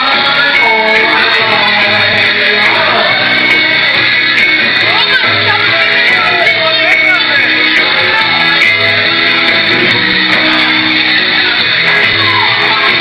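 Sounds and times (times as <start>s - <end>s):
electric guitar: 0.0s - 13.0s
live rock band: 0.0s - 13.0s
person singing: 0.0s - 13.0s.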